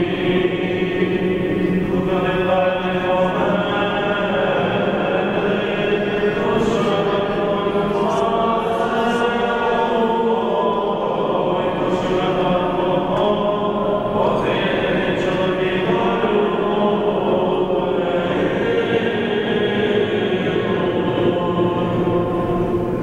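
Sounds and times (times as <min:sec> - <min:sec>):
voices chanting prayers: 0:00.0 - 0:23.0.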